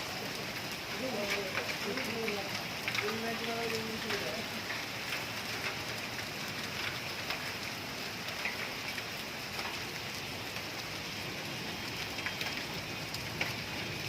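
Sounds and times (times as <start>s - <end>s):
raindrops ticking: 0.0s - 14.0s
steady rain hiss: 0.0s - 14.0s.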